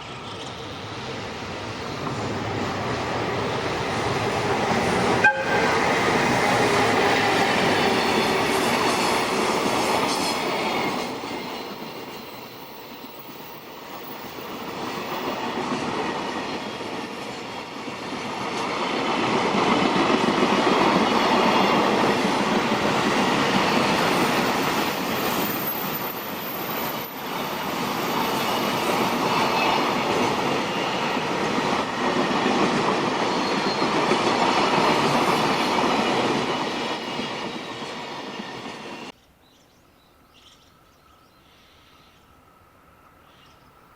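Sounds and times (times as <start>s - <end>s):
freight train passing: 0.0s - 39.2s, 40.2s - 43.9s.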